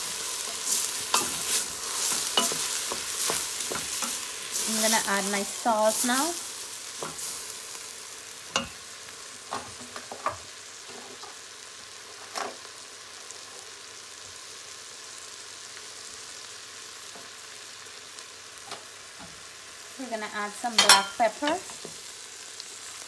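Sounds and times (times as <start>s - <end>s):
rice and onions sizzling in oil: 0.0s - 23.0s.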